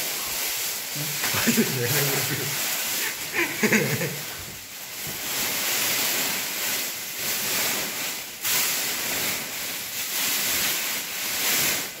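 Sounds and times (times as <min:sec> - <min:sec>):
loud rushing hiss: 0:00.0 - 0:12.0.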